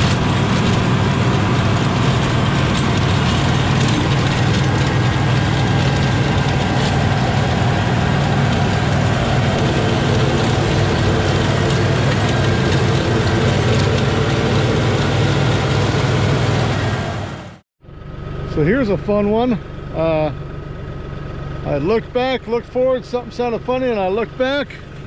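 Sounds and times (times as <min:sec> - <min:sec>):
rotary tiller hum: 0:00.0 - 0:25.0
tractor diesel engine under load: 0:00.0 - 0:25.0.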